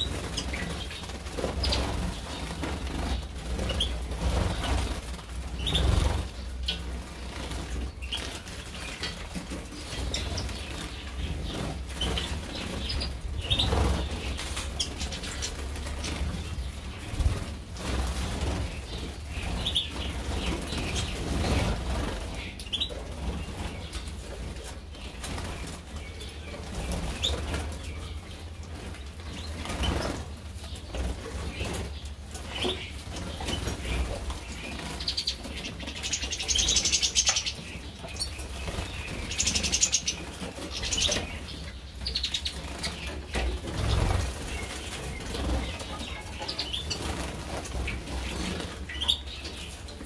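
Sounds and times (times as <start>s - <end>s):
birds wing-fluttering and splashing: 0.0s - 50.0s.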